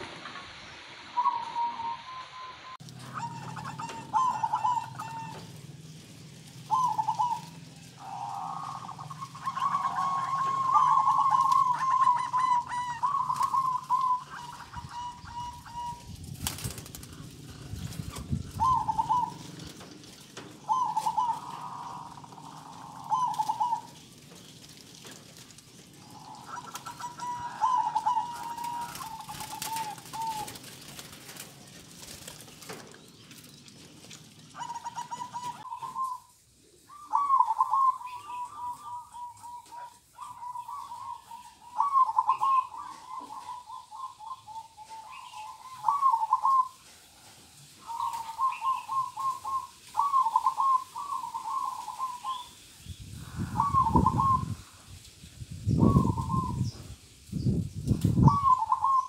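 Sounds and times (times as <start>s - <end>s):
doves cooing: 0.0s - 55.0s, 55.6s - 57.0s, 57.8s - 59.0s.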